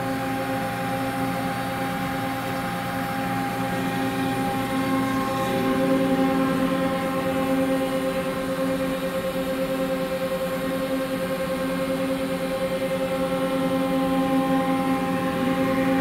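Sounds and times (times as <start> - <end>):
machine hum with steady tones: 0.0 - 16.0.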